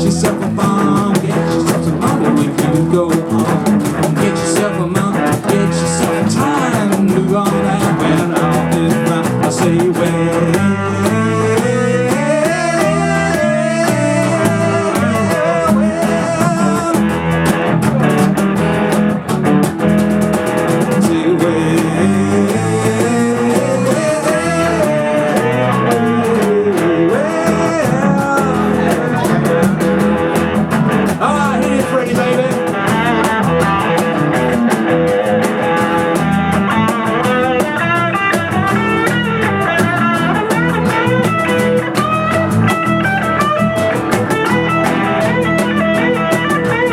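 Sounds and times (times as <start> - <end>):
blues rock band instrumental: 0.0 - 46.9
lead guitar bending notes: 0.0 - 46.9.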